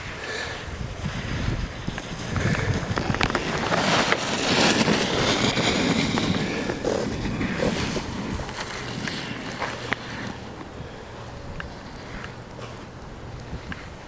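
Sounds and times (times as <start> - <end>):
snowboard carving on snow: 0.0 - 14.0.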